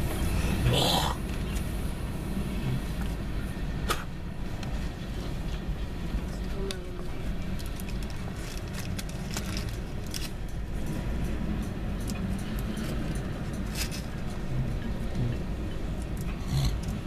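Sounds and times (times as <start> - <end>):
train cars rumbling: 0.0 - 17.0.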